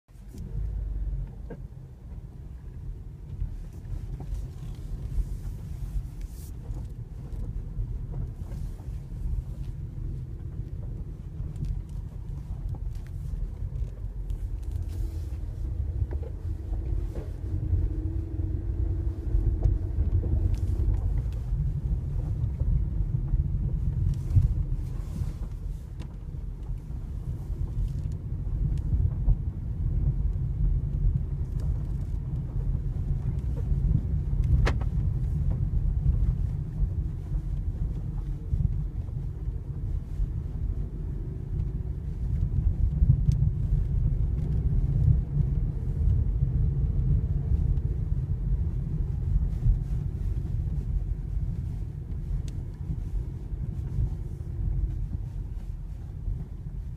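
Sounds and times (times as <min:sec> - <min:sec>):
low road rumble: 0:00.0 - 0:56.9
suspension creaks and clicks: 0:00.2 - 0:56.9.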